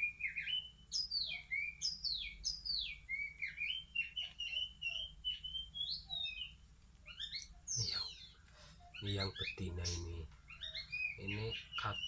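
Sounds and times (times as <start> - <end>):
fledglings chirping: 0.0 - 12.0.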